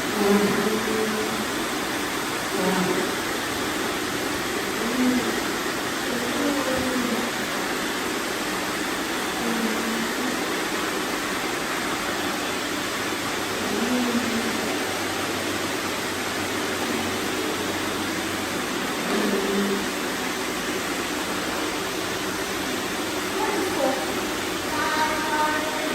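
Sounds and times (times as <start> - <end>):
robot vacuums humming: 0.0 - 25.9.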